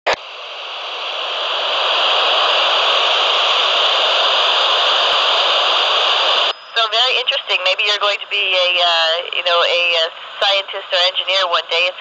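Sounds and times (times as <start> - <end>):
radio static hiss: 0.1 - 12.0.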